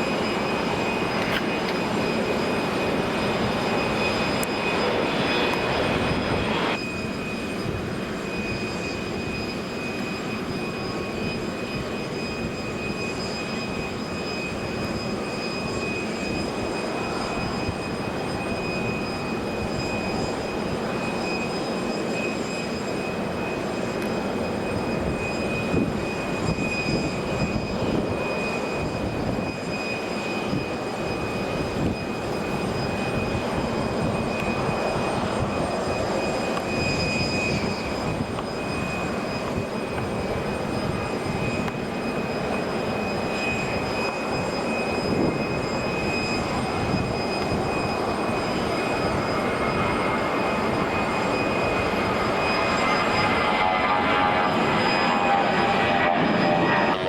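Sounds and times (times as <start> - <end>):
jet engine whine: 0.0 - 57.0
jet engines rumbling: 0.0 - 57.0.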